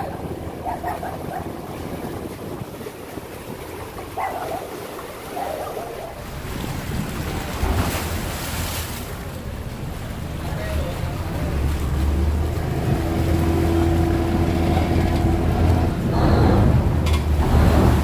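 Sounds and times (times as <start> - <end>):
barge engine rumbling: 0.0 - 18.0
water washing along hull: 0.0 - 18.0
wind buffeting microphone: 0.0 - 18.0.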